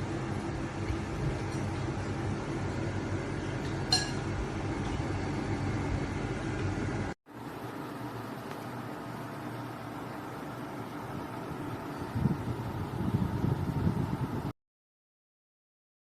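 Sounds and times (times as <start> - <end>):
air conditioner fans humming: 0.0 - 14.5.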